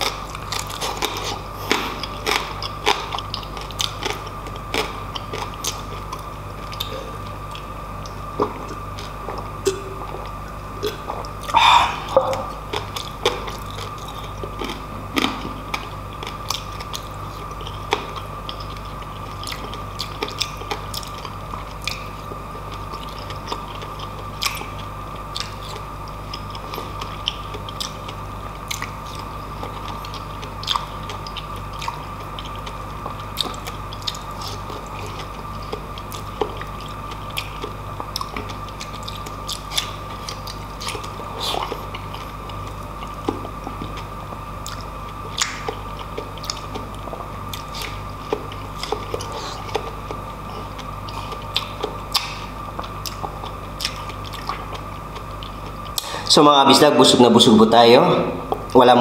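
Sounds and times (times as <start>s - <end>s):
person chewing food: 0.0s - 56.3s
faint steady hum: 0.0s - 59.0s.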